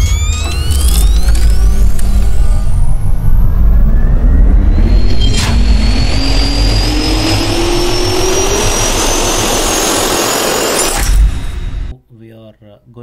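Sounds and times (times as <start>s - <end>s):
jet engine spooling up: 0.0s - 11.9s
sharp hit: 0.0s - 11.9s.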